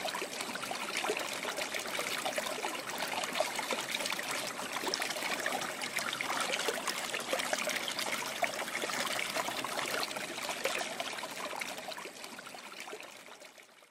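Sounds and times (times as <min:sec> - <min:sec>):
water trickling and burbling: 0:00.0 - 0:13.9.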